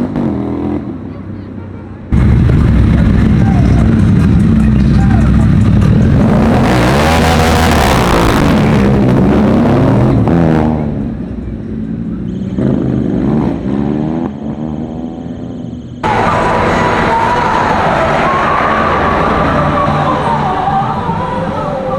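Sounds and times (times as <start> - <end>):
car engine revving: 2.1 - 11.3, 12.6 - 21.9.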